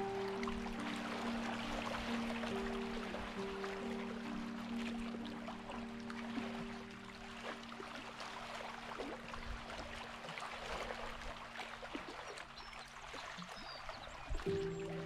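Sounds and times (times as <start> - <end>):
soft sustained music tones: 0.0 - 15.0
water trickling and lapping: 0.0 - 15.0.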